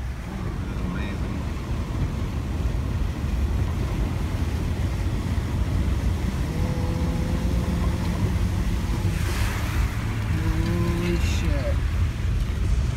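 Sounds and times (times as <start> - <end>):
car engine rumble: 0.0 - 12.9
water washing against car: 0.0 - 12.9.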